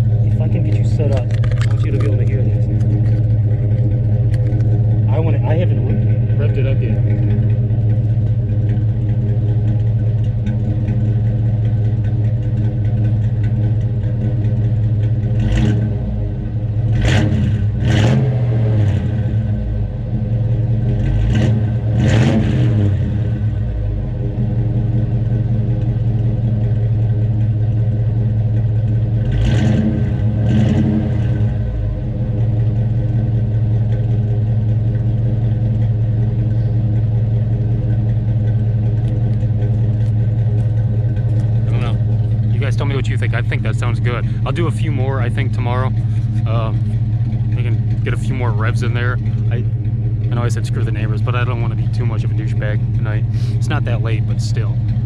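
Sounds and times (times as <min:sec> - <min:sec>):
car engine idling: 0:00.0 - 0:55.0
engine revving: 0:00.0 - 0:55.0.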